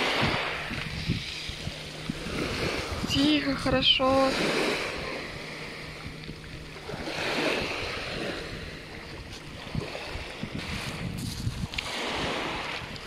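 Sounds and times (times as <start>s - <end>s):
waves washing onto pebble shore: 0.0s - 5.8s, 6.8s - 13.0s
wind gusting on microphone: 0.0s - 13.0s.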